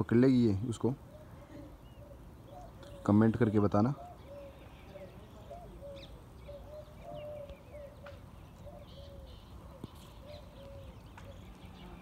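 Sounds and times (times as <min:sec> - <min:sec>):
small birds chirping: 0:00.0 - 0:12.0
dove cooing: 0:01.0 - 0:12.0.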